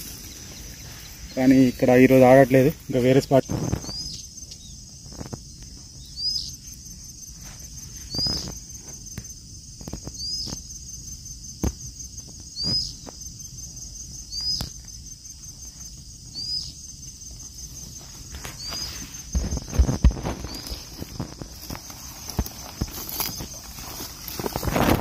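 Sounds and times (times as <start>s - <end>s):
footsteps on woodland ground: 0.0s - 10.7s, 14.3s - 25.0s
insects trilling: 0.0s - 25.0s.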